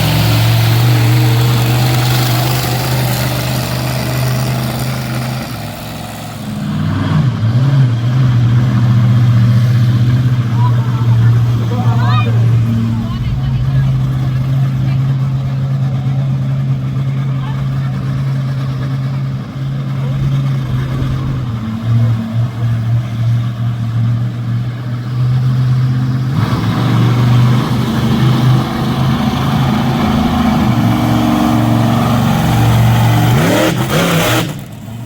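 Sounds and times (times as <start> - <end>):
monster truck engine running: 0.0 - 35.0.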